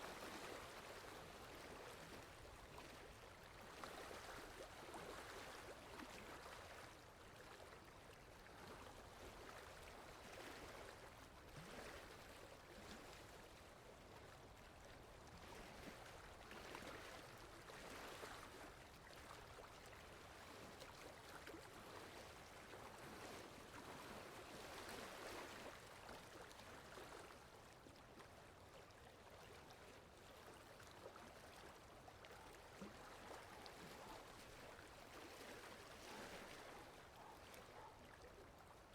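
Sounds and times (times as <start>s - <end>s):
faint water lapping: 0.0s - 38.9s.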